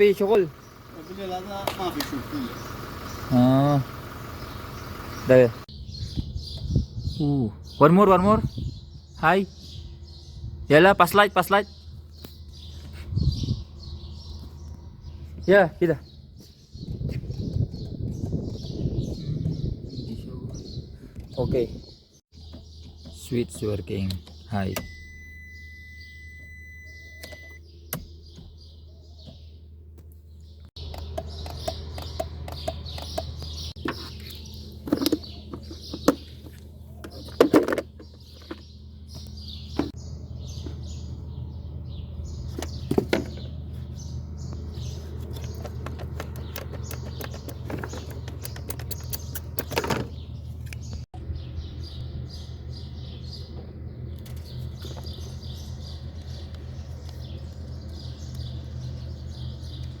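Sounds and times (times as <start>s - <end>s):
birds chirping: 0.0s - 60.0s.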